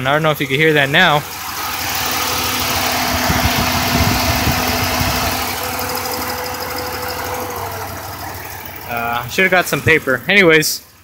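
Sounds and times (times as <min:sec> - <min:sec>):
car engine running: 0:00.0 - 0:11.0
radiator cooling fans rushing air: 0:01.0 - 0:10.7.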